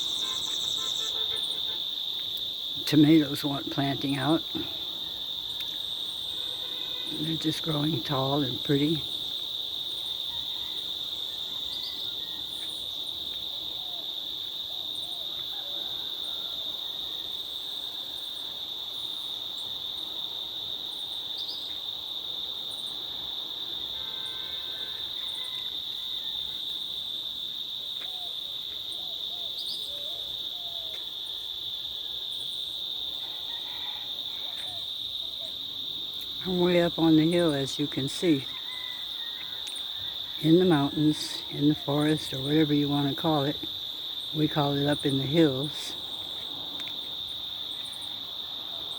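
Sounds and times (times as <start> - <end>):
cicadas droning: 0.0 - 48.9.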